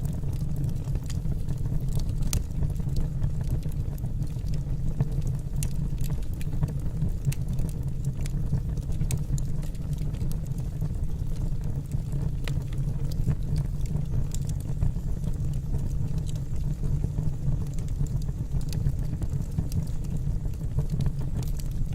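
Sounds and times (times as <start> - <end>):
fire rumbling: 0.0 - 21.9
wood crackling and popping: 0.0 - 21.9.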